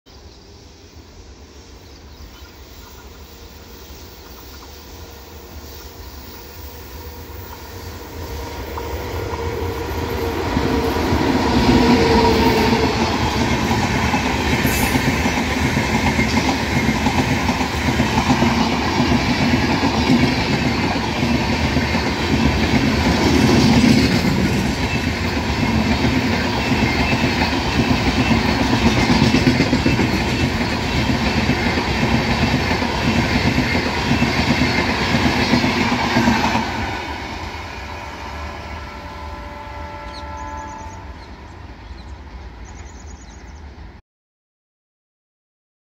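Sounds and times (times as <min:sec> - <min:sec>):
train passing at speed: 0:00.1 - 0:44.0
train wheels rushing on rails: 0:00.2 - 0:44.0.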